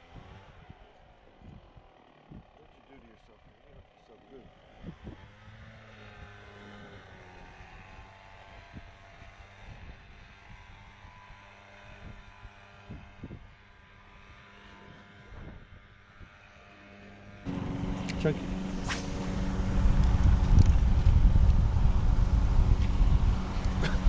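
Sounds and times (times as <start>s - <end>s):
distant motor hum: 0.0s - 24.0s.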